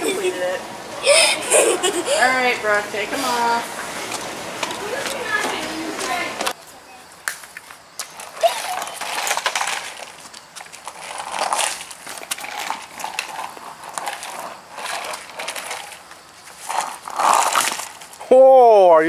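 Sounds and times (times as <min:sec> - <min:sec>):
skateboard wheels rolling on asphalt: 0:00.0 - 0:18.5.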